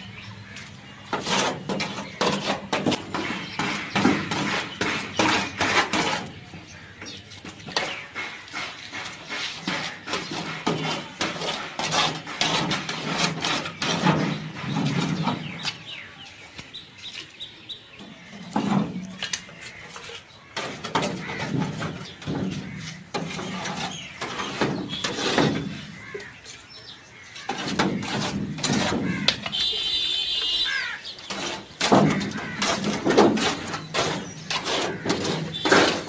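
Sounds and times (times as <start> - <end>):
brush scraping glue on tin sheet: 0.9 - 15.9, 18.5 - 26.2, 27.3 - 29.7, 30.7 - 36.0.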